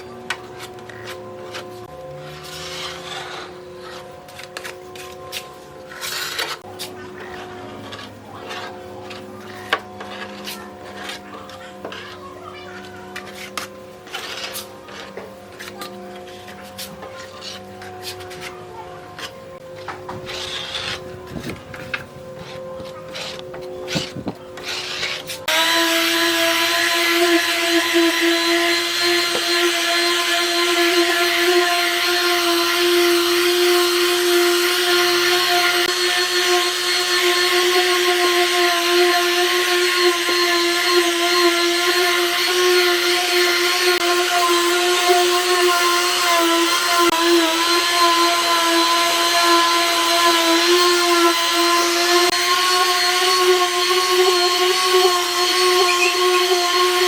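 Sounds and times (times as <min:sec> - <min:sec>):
electric power tool whining: 0:00.0 - 0:57.0.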